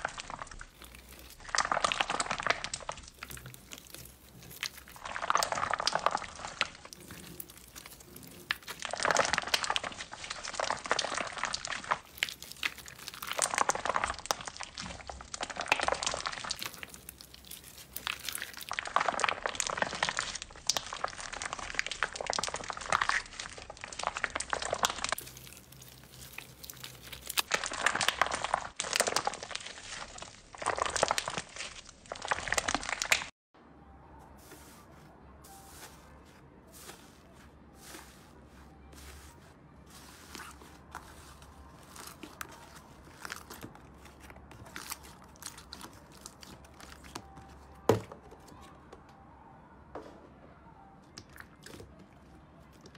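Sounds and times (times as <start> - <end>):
slime crackling and squishing: 0.0 - 33.4, 34.4 - 48.7, 51.2 - 52.9.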